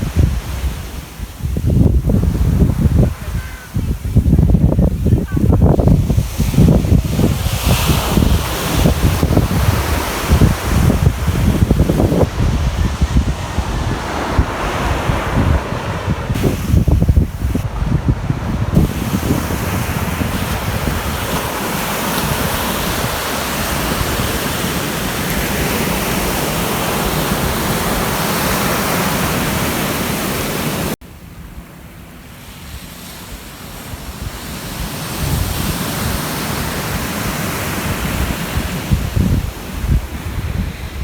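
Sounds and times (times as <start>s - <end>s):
wind rumbling on microphone: 0.0s - 31.6s, 32.3s - 41.0s
ocean surf washing onto beach: 0.0s - 41.0s.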